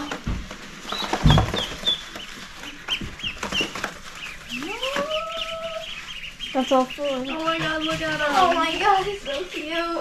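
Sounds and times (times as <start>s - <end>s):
ducklings peeping: 0.0s - 10.0s.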